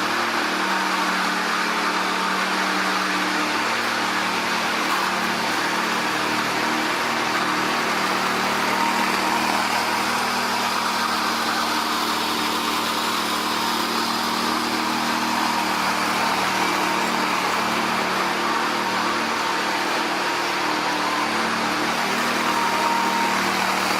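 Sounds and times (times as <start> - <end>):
machine engine running: 0.0 - 23.9.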